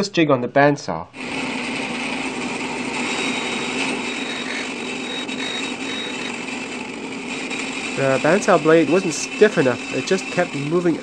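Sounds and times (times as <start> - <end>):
bandsaw motor hum: 1.2 - 11.0
saw cutting wood hiss: 1.2 - 11.0.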